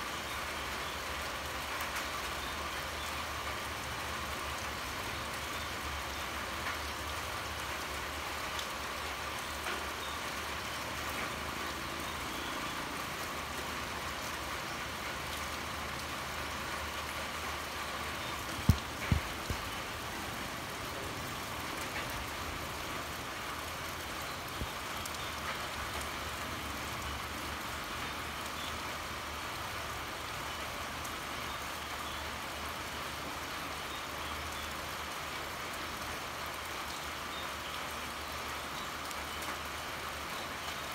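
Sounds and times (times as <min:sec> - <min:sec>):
rain pouring: 0:00.0 - 0:40.9.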